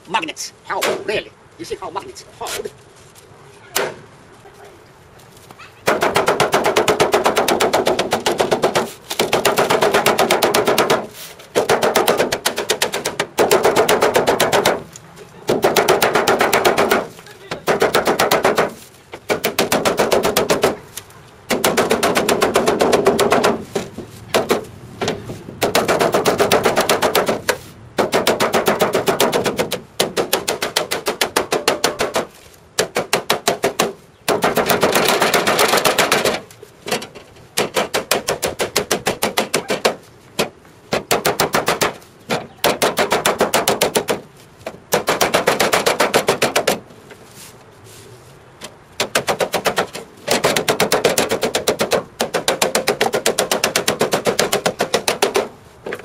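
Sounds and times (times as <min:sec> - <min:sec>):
rapid hammering on metal: 0:05.8 - 0:14.9, 0:15.5 - 0:20.8, 0:21.5 - 0:36.5, 0:37.6 - 0:46.8, 0:49.0 - 0:55.6.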